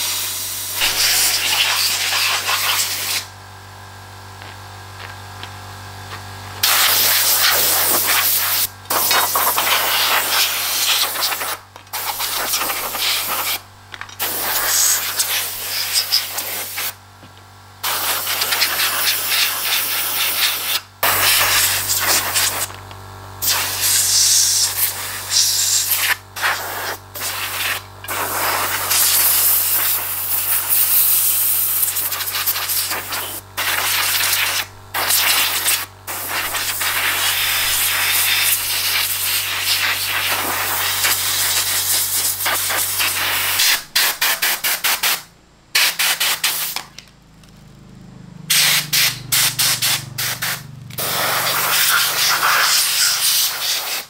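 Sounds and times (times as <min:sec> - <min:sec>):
air spray hissing: 0:00.0 - 0:03.3, 0:06.6 - 0:13.6, 0:14.2 - 0:17.0, 0:17.8 - 0:22.7, 0:23.4 - 0:45.2, 0:45.8 - 0:46.8, 0:48.5 - 0:54.0
steady low hum: 0:00.0 - 0:53.7.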